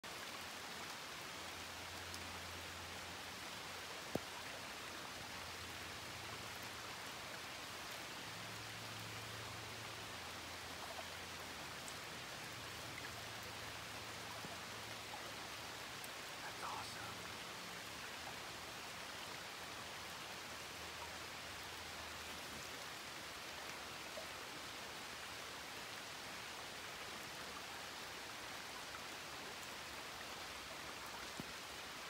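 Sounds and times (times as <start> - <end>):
light rain falling: 0.0 - 32.0.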